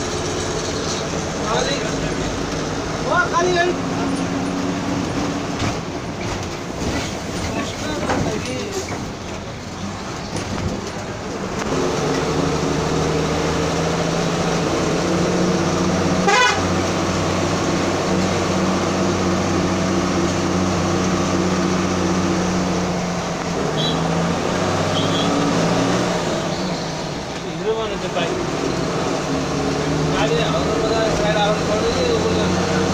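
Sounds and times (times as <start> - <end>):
road noise: 0.0 - 32.9.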